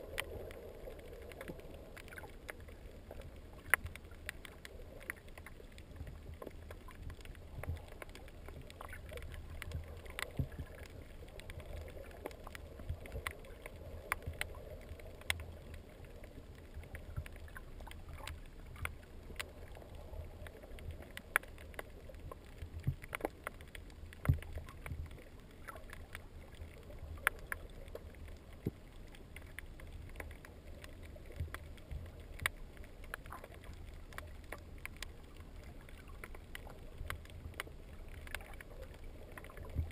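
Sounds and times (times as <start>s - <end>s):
muffled underwater rumble: 0.0s - 39.9s
sharp underwater clicks: 0.0s - 39.9s.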